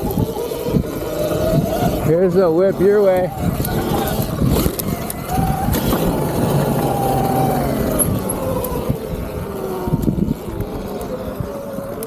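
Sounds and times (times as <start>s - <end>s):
electric dirt bike motor whining: 0.0s - 12.0s
rough low rumbling noise: 0.0s - 12.0s.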